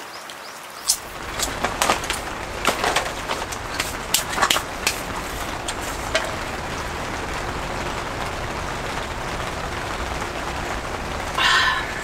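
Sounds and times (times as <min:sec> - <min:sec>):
light rain on a tent: 0:00.0 - 0:12.0.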